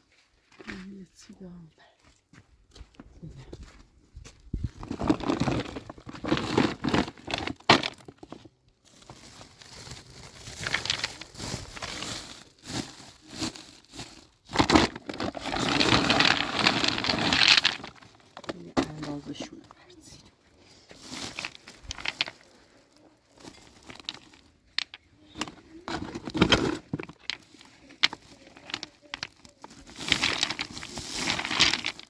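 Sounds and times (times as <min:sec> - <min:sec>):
crinkly handling noise: 0:04.4 - 0:32.0.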